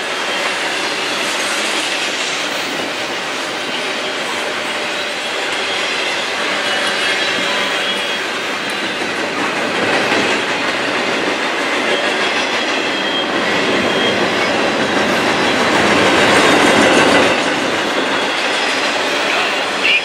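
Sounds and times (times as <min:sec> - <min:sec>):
freight train wheels clattering: 0:00.0 - 0:20.0.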